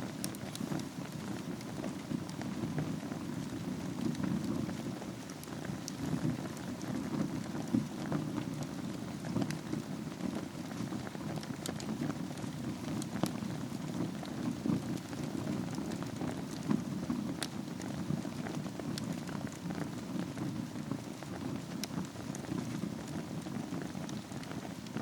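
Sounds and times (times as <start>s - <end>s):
wood fire burning: 0.0s - 25.0s.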